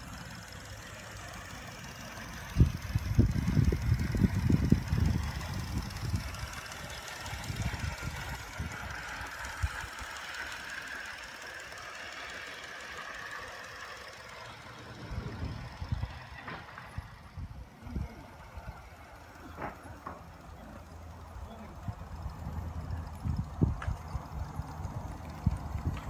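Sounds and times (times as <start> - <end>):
steam locomotive beats and clicks: 0.0 - 26.0.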